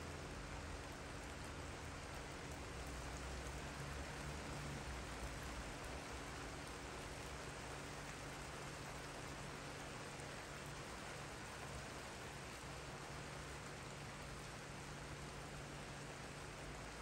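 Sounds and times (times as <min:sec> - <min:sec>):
rain on wooden deck: 0:00.0 - 0:17.0.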